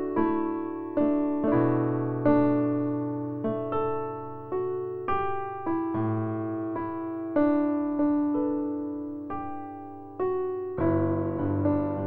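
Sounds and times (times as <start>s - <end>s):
soft solo piano music: 0.0s - 12.0s.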